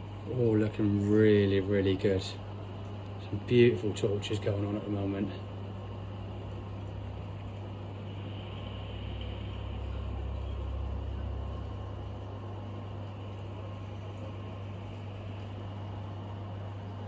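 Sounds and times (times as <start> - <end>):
fan whirring: 0.0 - 17.0.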